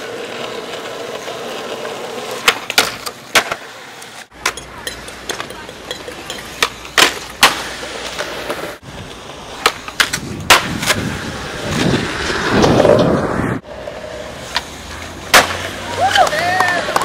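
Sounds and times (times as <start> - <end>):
skateboard popping on concrete: 0.0 - 13.2, 14.4 - 17.0
skateboard wheels rolling: 0.0 - 17.0.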